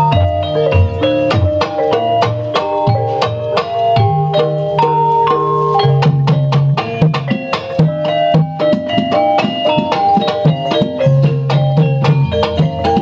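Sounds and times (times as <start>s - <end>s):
drum strokes: 0.0s - 13.0s
struck tuned percussion: 0.0s - 13.0s.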